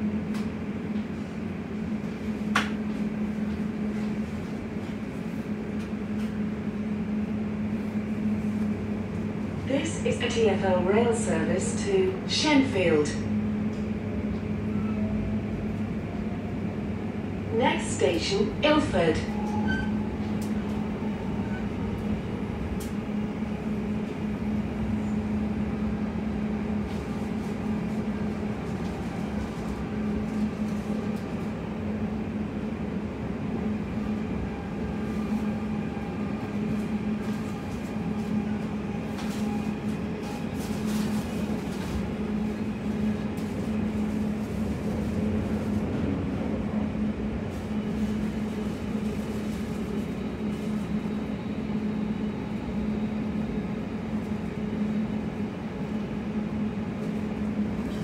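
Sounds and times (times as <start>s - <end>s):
constant low hum: 0.0s - 58.0s
train wheels rumbling on rails: 0.0s - 58.0s.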